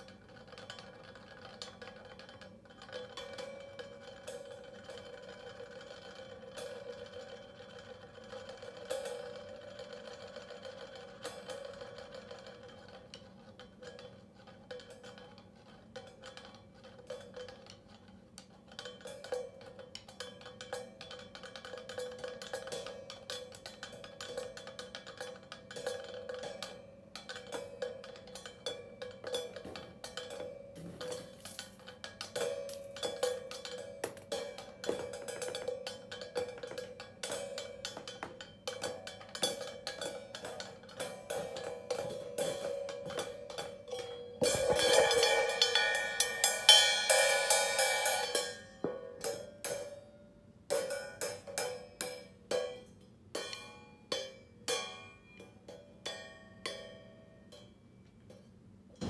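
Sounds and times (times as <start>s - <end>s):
cymbal struck with a drumstick: 2.9s - 12.9s, 18.8s - 57.8s.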